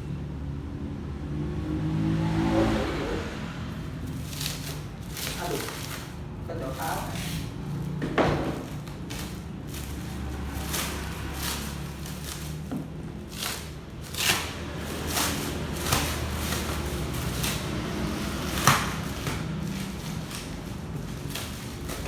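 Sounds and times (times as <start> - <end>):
packaging knocks and scrapes: 4.0 - 22.0.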